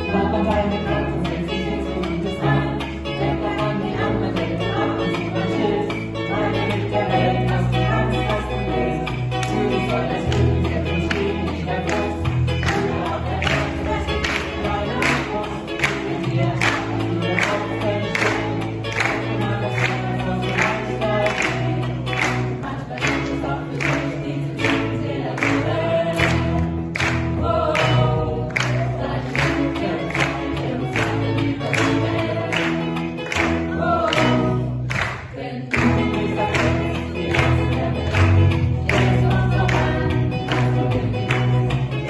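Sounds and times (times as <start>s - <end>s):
electric guitar: 0.0s - 42.0s
group singing in chorus: 0.0s - 42.0s
piano: 0.0s - 42.0s.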